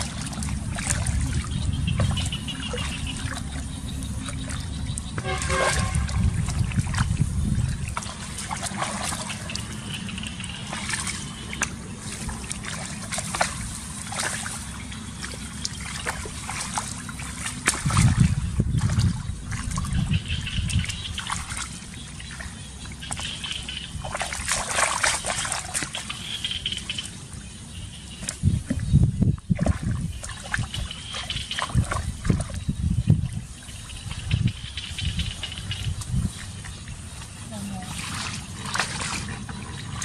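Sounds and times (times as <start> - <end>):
shallow water sloshing and trickling: 0.0 - 40.0
water splashes: 0.0 - 40.0.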